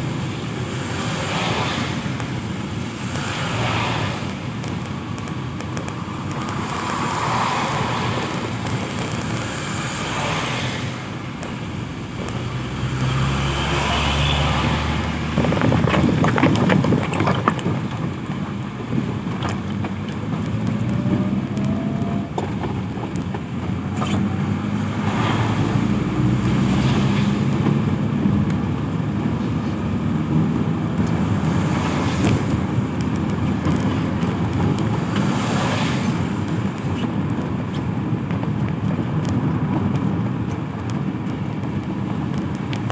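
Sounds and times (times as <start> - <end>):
vehicle engines running: 0.0 - 42.9
vehicles passing: 0.0 - 42.9.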